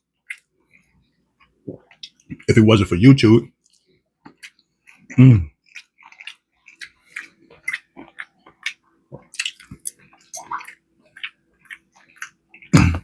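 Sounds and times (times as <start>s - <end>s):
wet chewing and lip-smacking: 0.2s - 2.5s, 3.5s - 13.0s.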